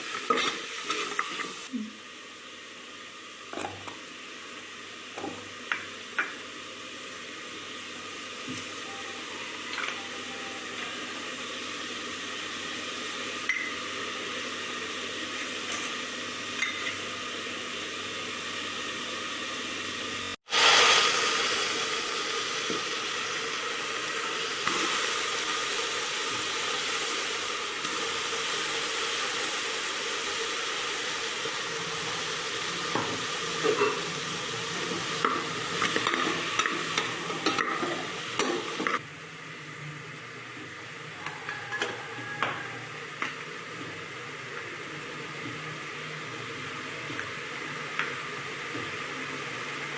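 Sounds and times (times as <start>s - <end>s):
food sizzling in oil: 0.0s - 39.8s, 40.7s - 49.9s.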